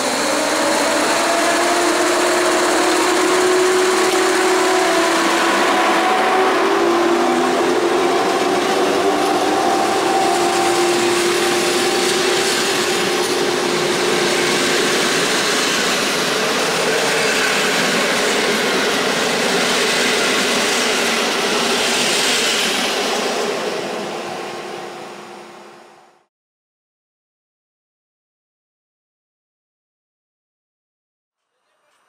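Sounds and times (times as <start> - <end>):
train wheels on rails: 0.0 - 26.1.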